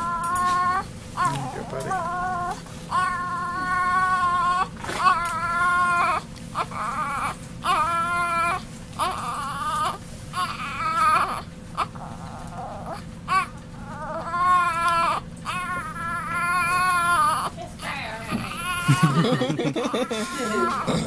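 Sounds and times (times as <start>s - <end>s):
newborn baby crying: 0.0s - 21.0s.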